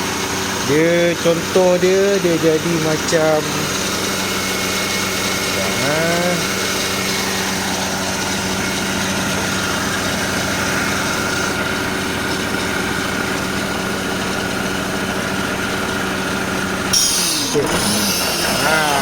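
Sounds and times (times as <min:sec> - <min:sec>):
car engine idling unevenly: 0:00.0 - 0:17.0.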